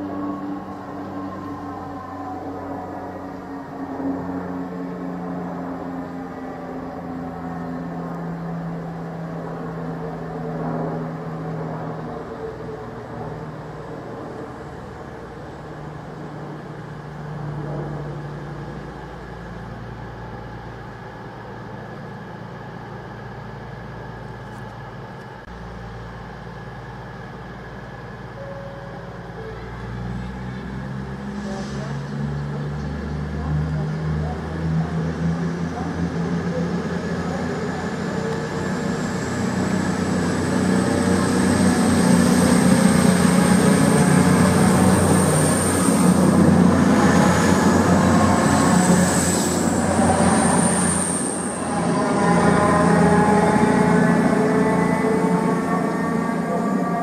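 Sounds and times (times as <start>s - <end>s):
faint rising whine: 0.0s - 33.5s, 34.2s - 57.0s
train diesel engines humming: 0.0s - 57.0s.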